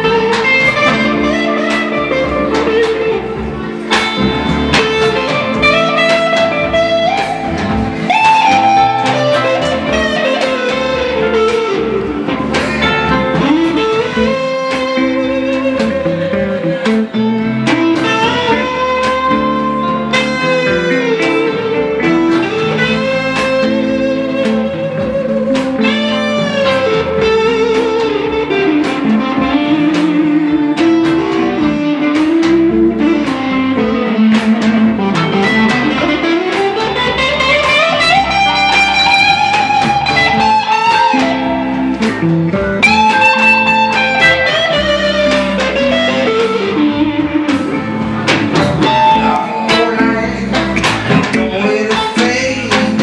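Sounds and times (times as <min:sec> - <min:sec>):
electric blues band playing: 0:00.0 - 0:53.0
lead electric guitar solo: 0:00.0 - 0:53.0.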